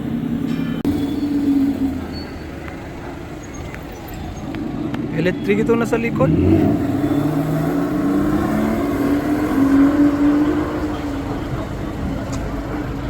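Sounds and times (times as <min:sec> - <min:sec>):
car passing: 0:00.0 - 0:13.0.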